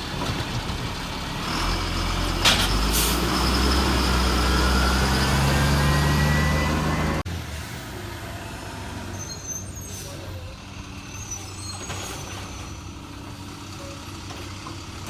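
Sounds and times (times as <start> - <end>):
garbage truck diesel engine: 0.0 - 15.0.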